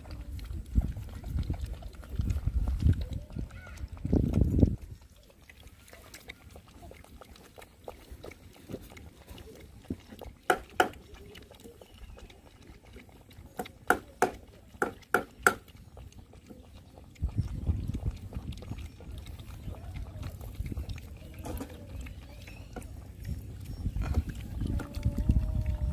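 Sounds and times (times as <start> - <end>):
puppy lapping and slurping: 0.0 - 25.9.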